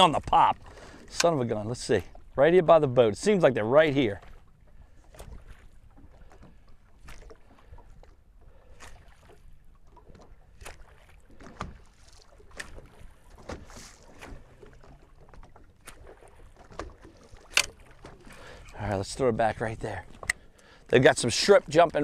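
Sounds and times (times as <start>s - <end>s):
small waves on choppy water: 0.0s - 22.0s
water splashing: 0.0s - 22.0s.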